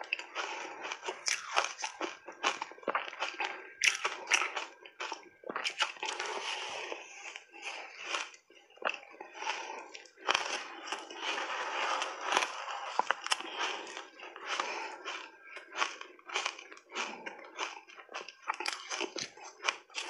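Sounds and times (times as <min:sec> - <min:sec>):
crunching shaved ice: 0:00.1 - 0:20.0.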